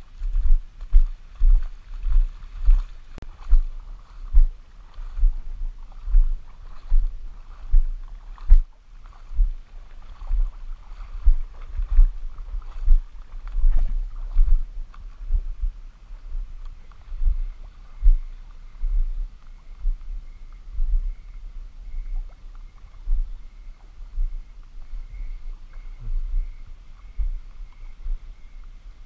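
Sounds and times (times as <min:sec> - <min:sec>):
wading through shallow water: 0:00.0 - 0:29.0.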